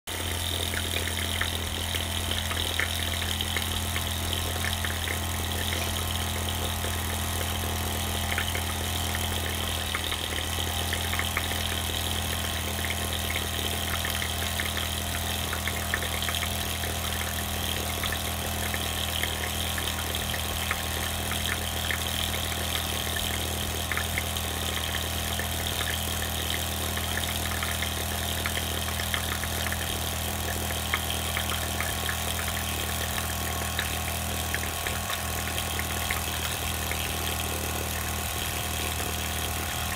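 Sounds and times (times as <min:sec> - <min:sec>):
model steam engines running: 0:00.1 - 0:39.9
rapid small ticks: 0:00.1 - 0:39.9.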